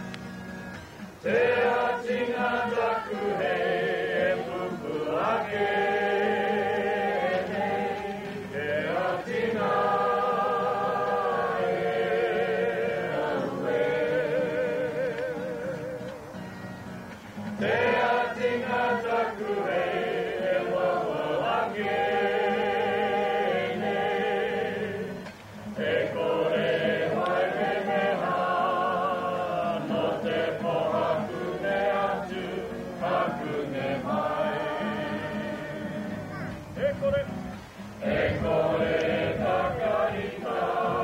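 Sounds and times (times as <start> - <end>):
group of voices singing: 1.1 - 16.5, 17.3 - 41.0.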